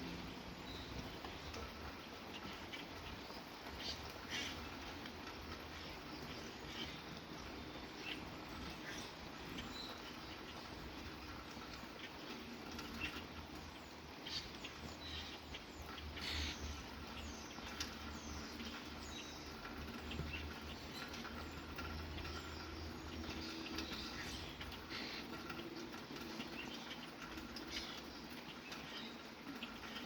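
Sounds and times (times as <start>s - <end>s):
birds chirping: 0.0s - 30.0s
rain patter: 0.0s - 30.0s.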